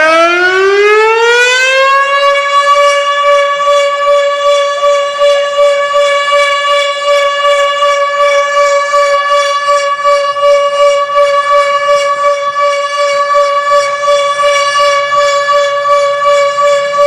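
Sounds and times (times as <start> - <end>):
tornado siren steady tone: 0.0 - 17.0.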